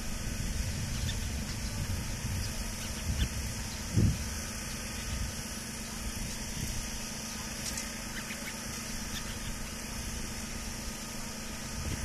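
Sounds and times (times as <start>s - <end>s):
constant high hiss: 0.0s - 12.0s
low engine-like rumble: 0.0s - 12.0s.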